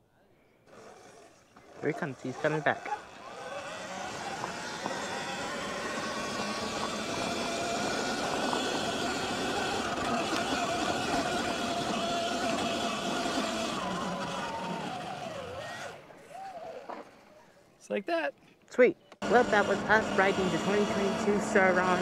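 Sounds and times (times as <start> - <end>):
electric motor whine: 0.6 - 17.2, 19.2 - 22.0.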